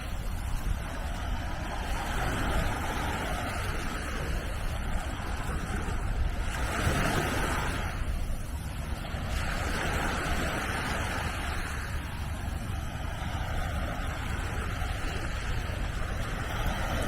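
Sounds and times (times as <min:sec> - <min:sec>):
small waves washing onto beach: 0:00.0 - 0:17.0
wind rumbling on microphone: 0:00.0 - 0:17.0.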